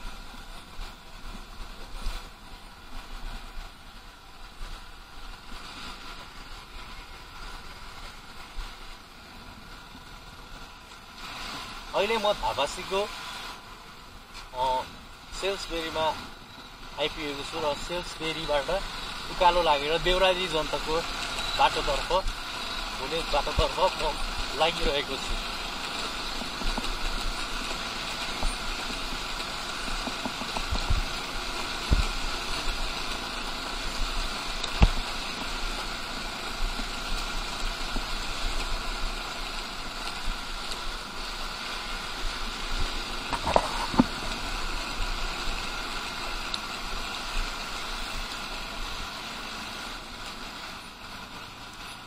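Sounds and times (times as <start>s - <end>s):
road and wind noise: 0.0s - 52.0s.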